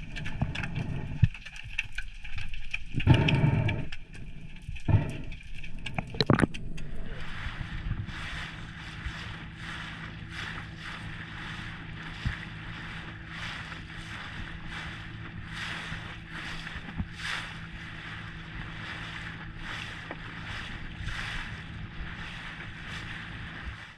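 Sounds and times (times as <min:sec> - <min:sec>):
boat engine hum: 0:00.0 - 0:23.9
water splashing against hull: 0:00.0 - 0:23.9.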